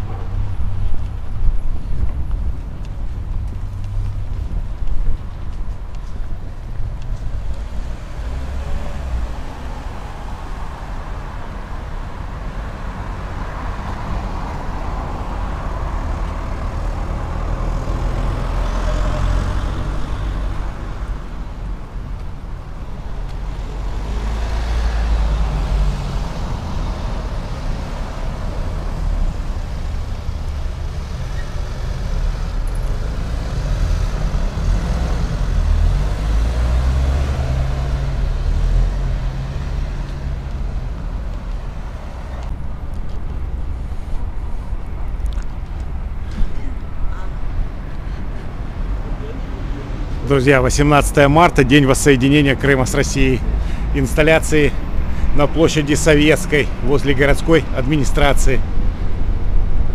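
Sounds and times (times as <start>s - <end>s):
cars passing: 0.0s - 59.9s.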